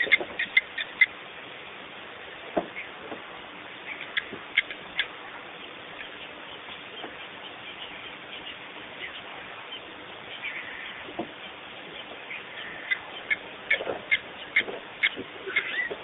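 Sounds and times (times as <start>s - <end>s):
wild bird calls: 0.0s - 1.2s, 2.6s - 16.0s
steady background hiss: 0.0s - 16.0s.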